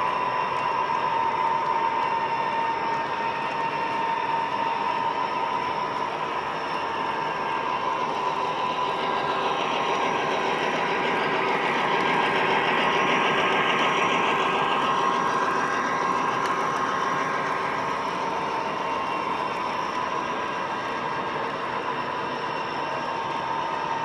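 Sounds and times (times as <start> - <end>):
model train wheels rumbling: 0.0 - 24.0
motor hum: 0.0 - 24.0.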